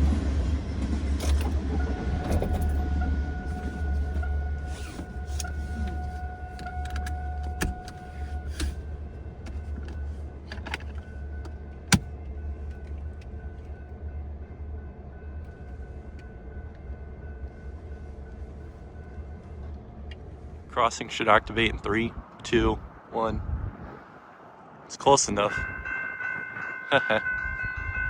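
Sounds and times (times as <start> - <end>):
vehicle engine rumble: 0.0 - 24.9.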